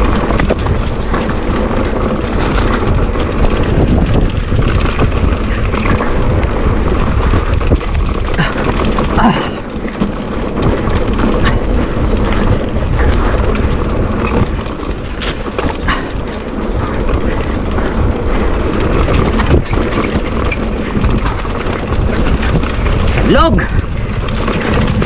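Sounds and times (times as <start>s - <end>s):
bike rattling and clattering: 0.0s - 25.0s
bike tyres rumbling on dirt: 0.0s - 25.0s
wind buffeting microphone: 0.0s - 25.0s.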